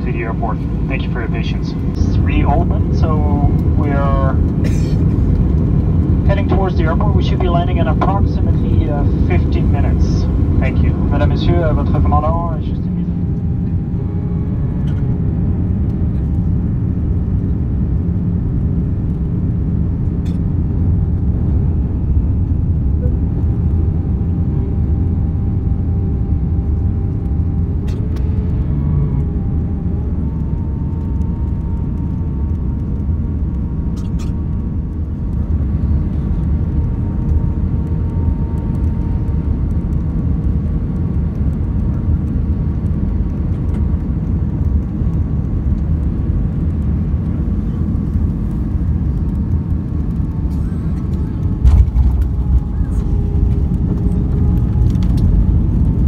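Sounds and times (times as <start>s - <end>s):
faint engine whine: 0.0s - 56.0s
jet engine rumble and rushing air: 0.0s - 56.0s.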